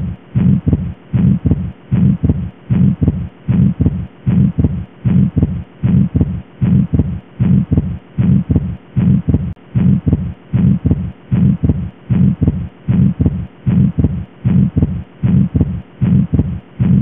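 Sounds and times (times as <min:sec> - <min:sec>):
heartbeat with murmur: 0:00.0 - 0:17.0.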